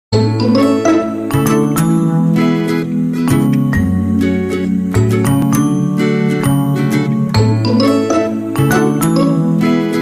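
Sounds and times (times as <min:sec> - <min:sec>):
ringing melody over bass notes: 0:00.2 - 0:10.0.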